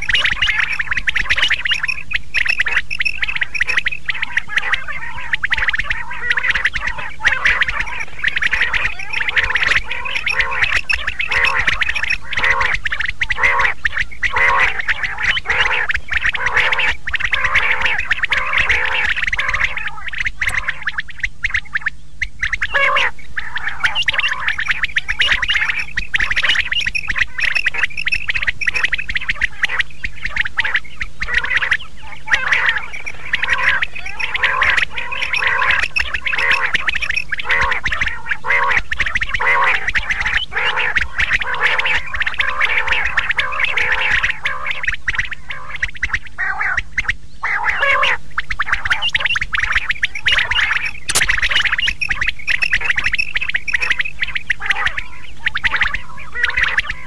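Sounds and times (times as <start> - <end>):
quails calling: 0.0 - 57.0.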